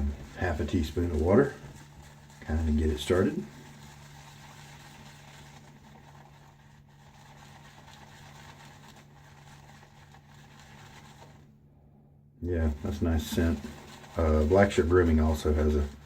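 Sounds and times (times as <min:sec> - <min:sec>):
shaving brush swishing in bowl: 0:00.0 - 0:11.5, 0:12.4 - 0:16.0
low steady hum: 0:00.0 - 0:16.0.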